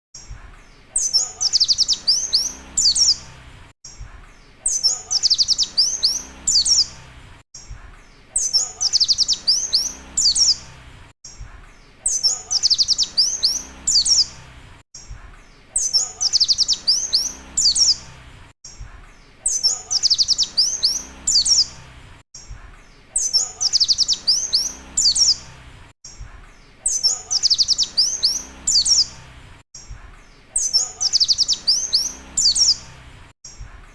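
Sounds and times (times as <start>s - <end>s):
bird twittering song: 0.2s - 14.4s, 15.0s - 25.5s, 26.1s - 33.7s.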